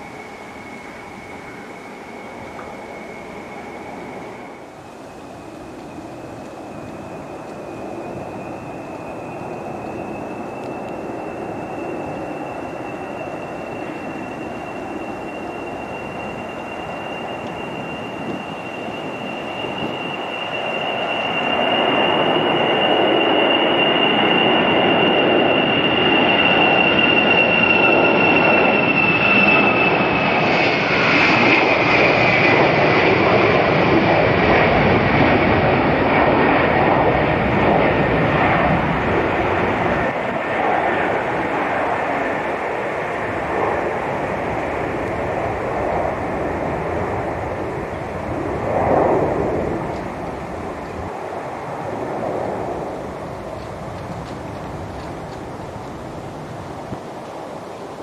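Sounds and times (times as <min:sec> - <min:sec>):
jet engines roaring at takeoff: 0:00.0 - 0:58.0.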